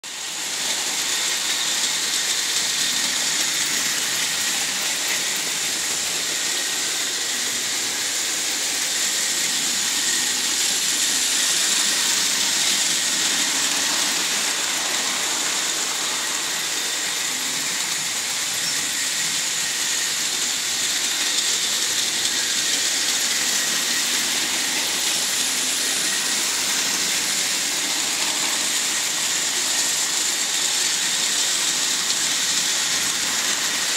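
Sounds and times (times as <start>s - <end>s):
model train motors whirring: 0.1s - 33.9s.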